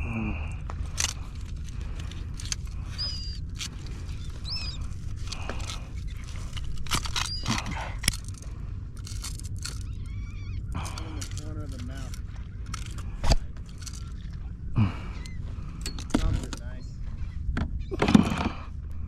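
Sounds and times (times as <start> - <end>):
fishing gear clicks and knocks: 0.0 - 16.8
seabirds chirping: 0.0 - 18.7
boat engine rumble: 0.0 - 19.0.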